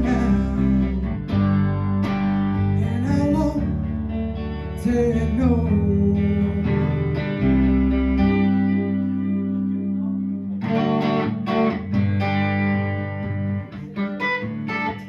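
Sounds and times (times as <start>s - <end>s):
live band guitar instrumental: 0.0s - 15.0s.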